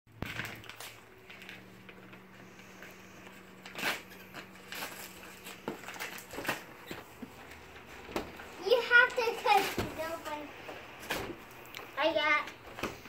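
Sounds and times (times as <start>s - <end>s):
paper wrapping rustling and tearing: 0.1s - 11.4s.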